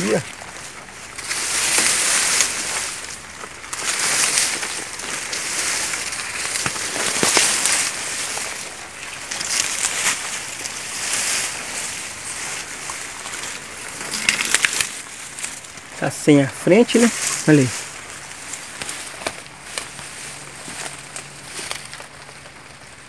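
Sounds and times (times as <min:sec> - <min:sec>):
dry grass rustling: 0:00.0 - 0:23.0
sharp crackles: 0:00.0 - 0:23.0.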